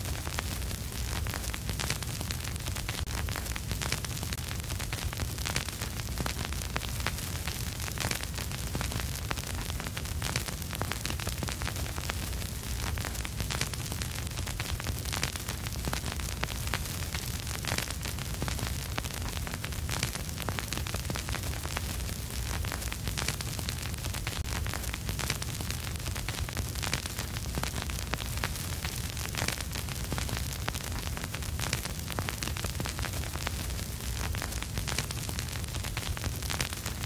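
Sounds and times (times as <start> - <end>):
vinyl record crackle and hiss: 0.0 - 37.0.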